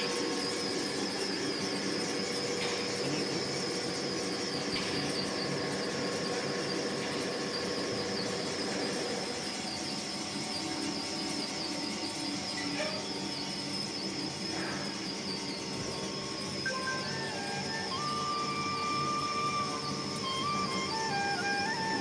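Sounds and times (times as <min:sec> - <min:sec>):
high-pitched machine whine: 0:00.0 - 0:22.0
lathe machine running: 0:00.0 - 0:22.0.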